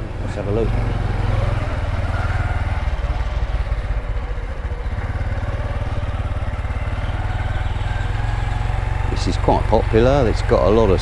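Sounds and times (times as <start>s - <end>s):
small motorcycle engine idling: 0.0s - 11.0s.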